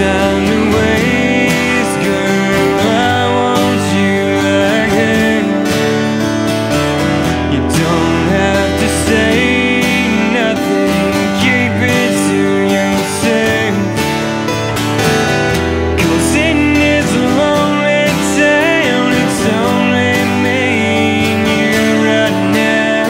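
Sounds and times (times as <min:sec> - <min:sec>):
acoustic guitars playing country music: 0:00.0 - 0:23.0.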